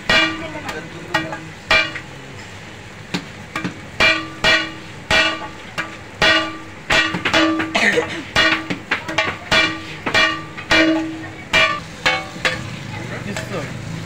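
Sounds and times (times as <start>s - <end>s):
metal spatula clanging on griddle: 0.0s - 2.6s, 3.2s - 13.6s.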